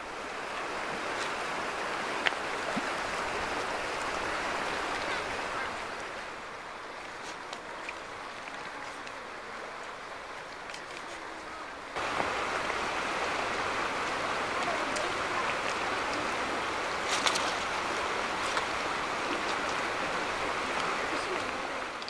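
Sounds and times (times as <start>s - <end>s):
river rushing over gravel: 0.0s - 22.0s.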